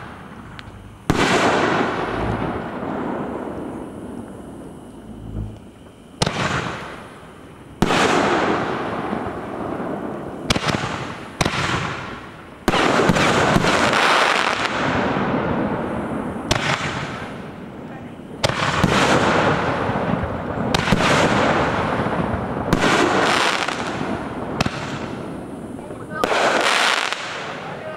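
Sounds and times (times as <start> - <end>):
dense firework crackling: 0.0 - 27.9
sharp firework bursts: 0.0 - 27.9.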